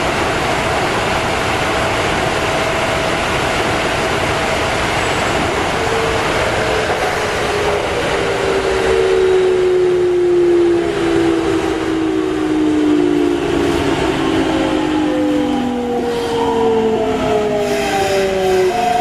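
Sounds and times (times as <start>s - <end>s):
wheel and rail noise: 0.0s - 19.0s.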